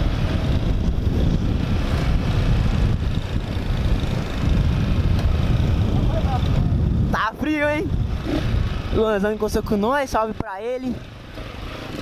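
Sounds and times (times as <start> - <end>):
wind rushing over microphone: 0.0 - 11.3
motorcycle engine: 0.0 - 12.0
road noise: 0.0 - 12.0.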